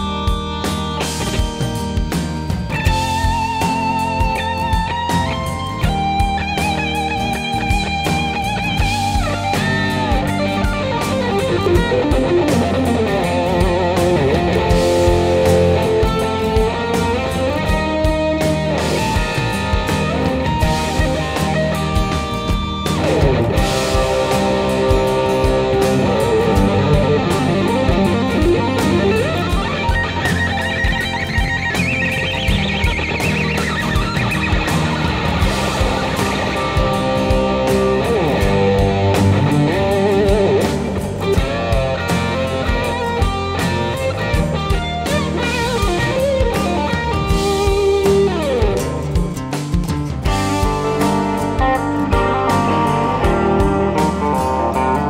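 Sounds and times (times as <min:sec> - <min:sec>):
electric guitar solo: 0:00.0 - 0:55.0
rock backing track with drums: 0:00.0 - 0:55.0.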